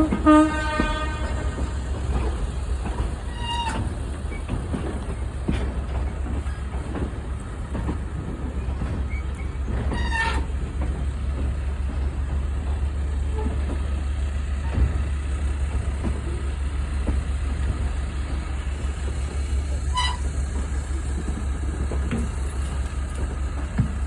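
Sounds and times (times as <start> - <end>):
train wheels clicking over rail joints: 0.0 - 24.0.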